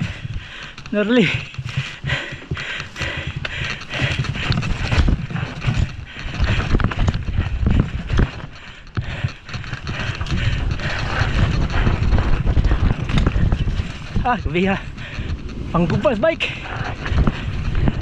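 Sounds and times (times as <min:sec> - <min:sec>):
bike rattling over bumps: 0:00.0 - 0:18.0
wind rumble on microphone: 0:00.0 - 0:18.0.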